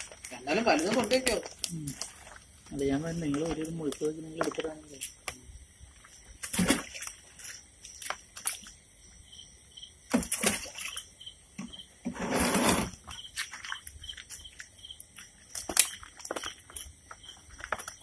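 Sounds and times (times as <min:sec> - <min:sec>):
fish splashing in a basin: 0:00.0 - 0:09.0, 0:09.9 - 0:12.1, 0:12.7 - 0:18.0
night insects trilling: 0:00.0 - 0:18.0.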